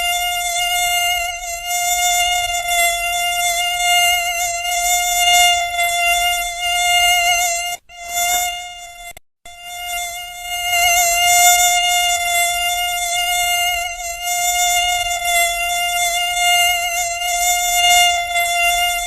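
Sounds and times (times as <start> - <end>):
mosquito wing whine: 0.0 - 19.0.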